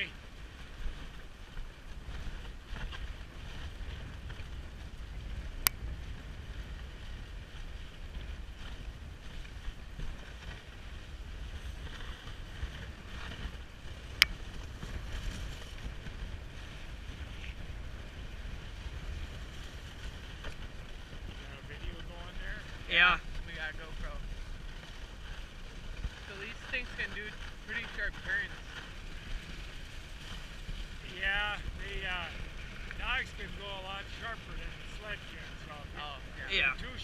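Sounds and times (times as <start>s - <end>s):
sled runners on packed snow: 0.0s - 37.0s
wind on microphone: 0.0s - 37.0s.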